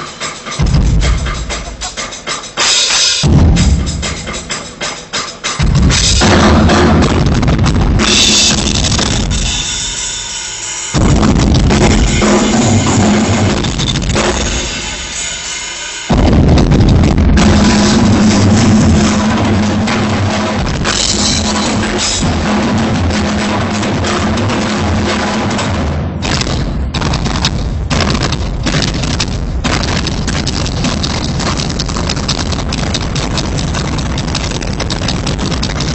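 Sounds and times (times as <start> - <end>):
drum kit played hard: 0.0 - 35.9.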